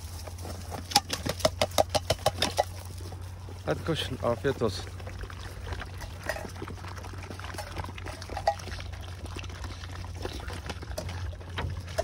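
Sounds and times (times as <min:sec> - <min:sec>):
puppies chewing and lapping: 0:00.0 - 0:12.0.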